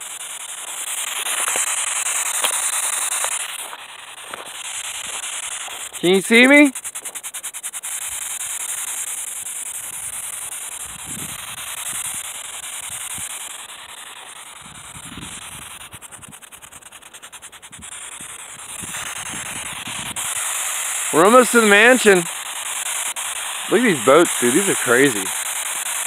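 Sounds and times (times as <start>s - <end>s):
rapid even ticking: 0.0s - 26.0s
static hiss: 0.0s - 26.0s.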